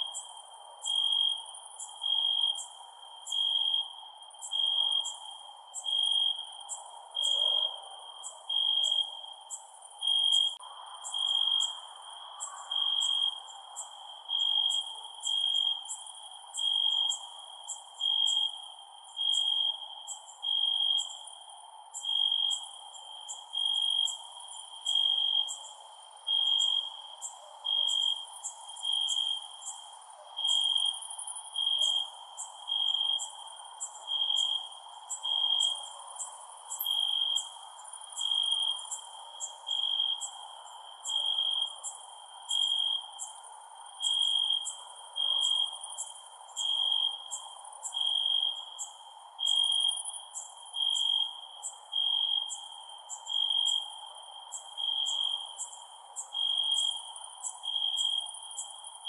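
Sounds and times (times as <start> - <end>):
cricket trilling: 0.0 - 59.0
high insect chirping: 0.0 - 59.0.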